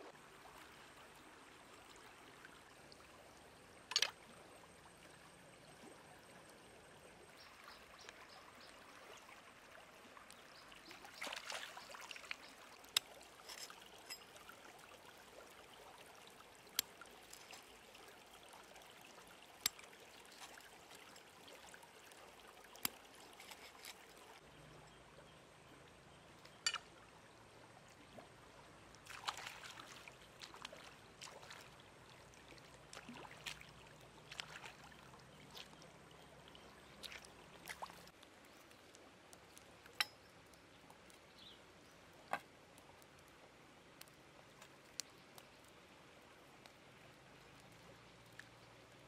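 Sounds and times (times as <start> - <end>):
light water splashes: 0.0 - 49.0
stream trickling over stones: 0.0 - 49.0.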